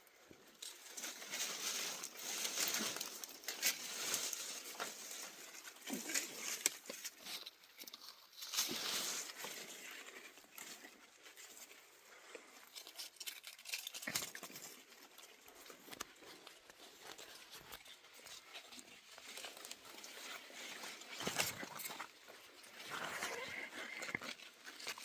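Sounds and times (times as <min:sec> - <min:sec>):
rustling and crackling: 0:00.0 - 0:25.0.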